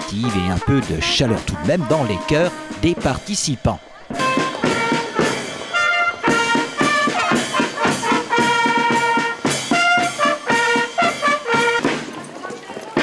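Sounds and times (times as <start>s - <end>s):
brass horns playing melody: 0.0s - 12.1s
drums beating march rhythm: 0.0s - 13.0s.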